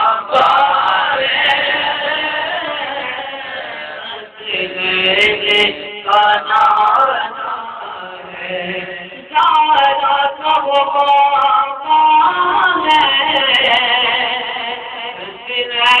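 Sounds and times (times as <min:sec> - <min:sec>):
man singing into microphone: 0:00.0 - 0:16.0.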